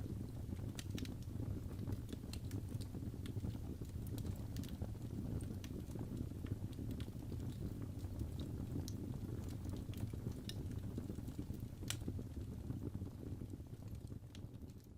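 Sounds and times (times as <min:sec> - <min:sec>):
fire crackling and popping: 0:00.0 - 0:14.9
fire rumbling: 0:00.0 - 0:14.9.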